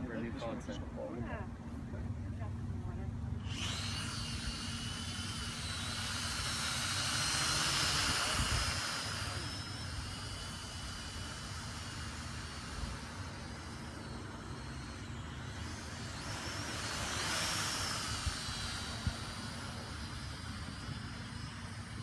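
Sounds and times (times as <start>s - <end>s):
toy drone motors whining: 3.3s - 22.0s.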